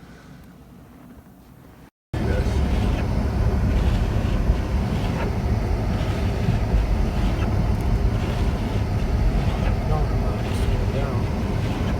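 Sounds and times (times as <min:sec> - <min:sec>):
car driving rumble inside cabin: 0:02.2 - 0:11.9.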